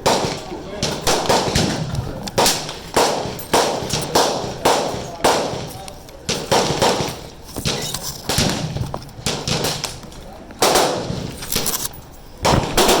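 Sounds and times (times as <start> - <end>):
rifle shots with ringing echo: 0.0 - 13.0.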